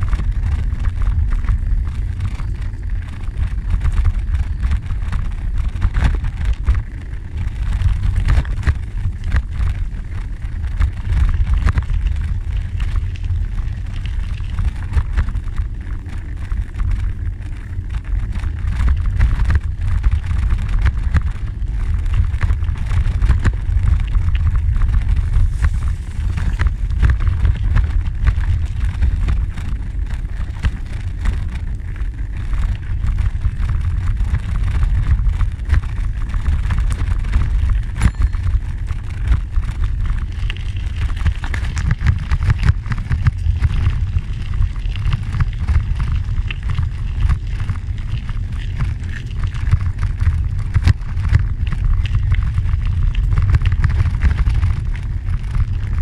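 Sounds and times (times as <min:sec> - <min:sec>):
bicycle tyres on gravel: 0:00.0 - 0:56.0
wind buffeting microphone: 0:00.0 - 0:56.0.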